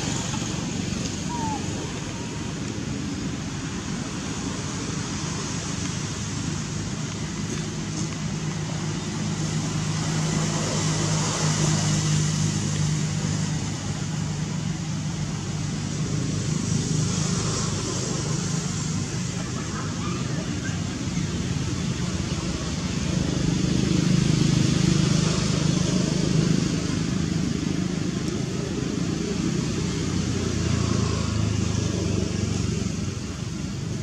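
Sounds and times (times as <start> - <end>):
outdoor background noise: 0.0 - 34.0
vehicle engine hum: 0.0 - 34.0.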